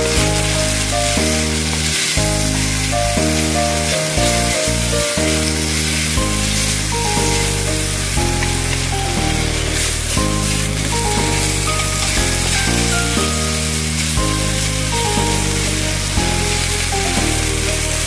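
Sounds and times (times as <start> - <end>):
background music: 0.0 - 18.0
beef sizzling in a wok: 0.0 - 18.0
wooden utensil stirring: 0.0 - 18.0.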